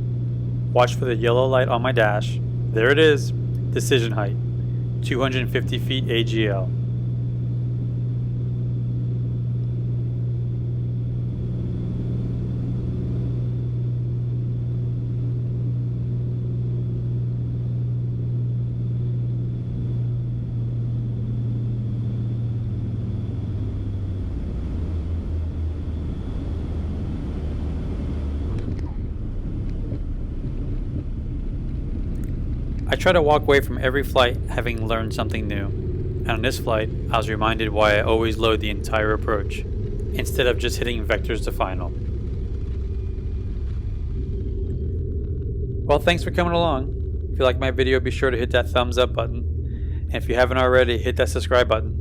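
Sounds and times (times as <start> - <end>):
propeller plane cabin drone: 0.0 - 52.0.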